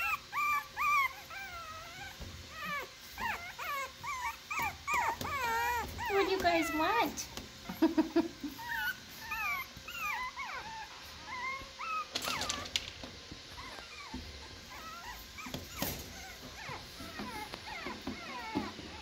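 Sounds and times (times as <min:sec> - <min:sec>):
puppies whining and yipping: 0:00.0 - 0:19.0.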